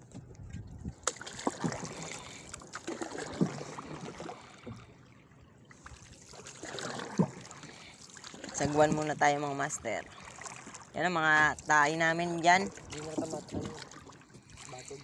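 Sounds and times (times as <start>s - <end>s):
paddles pulling through water: 0.0s - 15.0s
water splashing and trickling: 0.0s - 15.0s.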